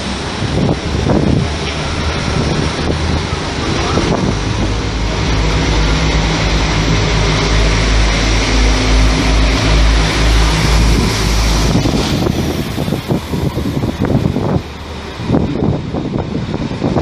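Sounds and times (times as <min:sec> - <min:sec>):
diesel train engines droning: 0:00.0 - 0:17.0
wind buffeting microphone: 0:00.0 - 0:17.0.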